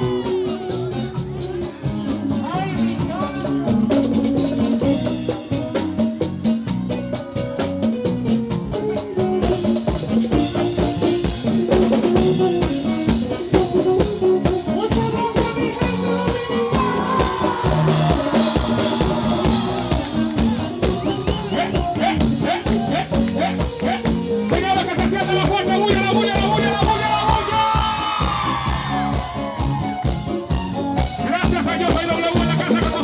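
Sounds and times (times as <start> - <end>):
drum kit and congas: 0.0 - 33.0
electric and acoustic guitars: 0.0 - 33.0
live band playing: 0.0 - 33.0.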